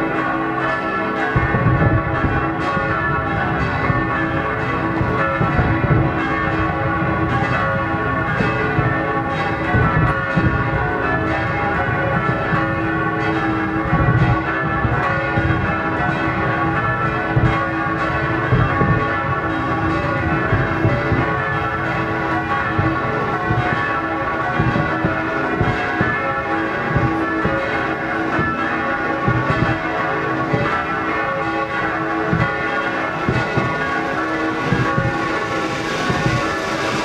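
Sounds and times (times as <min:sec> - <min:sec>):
church bells ringing: 0:00.0 - 0:37.0
fireworks banging and booming: 0:00.0 - 0:37.0.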